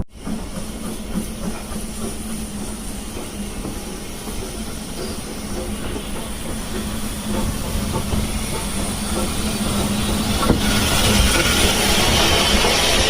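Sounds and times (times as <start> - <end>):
train rumbling: 0.1 - 13.0
hiss: 0.2 - 13.0.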